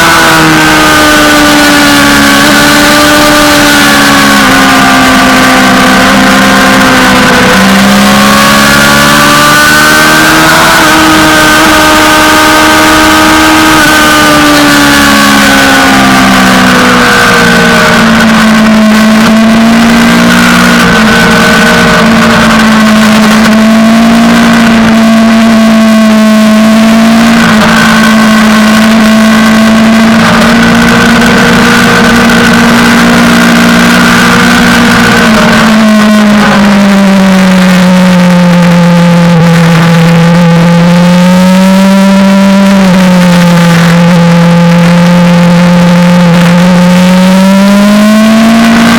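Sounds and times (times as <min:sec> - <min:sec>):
motorcycle engine at speed: 0:00.0 - 0:48.9.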